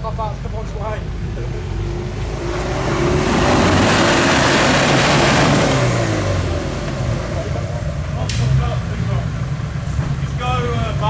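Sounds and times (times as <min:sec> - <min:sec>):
engine revving under load: 0:00.0 - 0:11.0.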